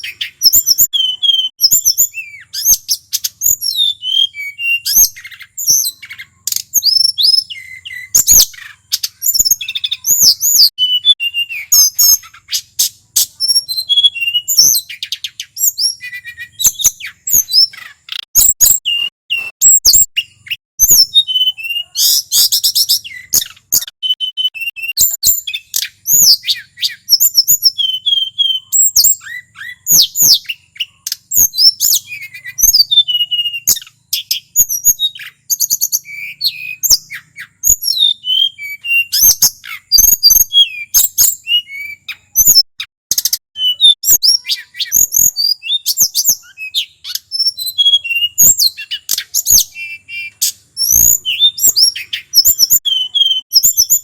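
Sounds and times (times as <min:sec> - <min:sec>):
bird singing chirps and trills: 0:00.0 - 0:54.0.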